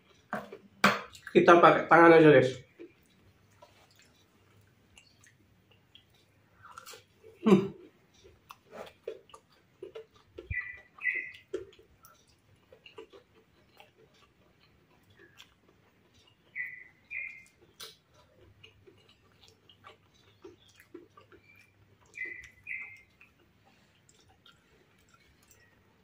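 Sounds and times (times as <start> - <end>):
chewing crispy food: 0.0 - 1.4, 2.6 - 26.0
mouth clicks: 4.9 - 25.8.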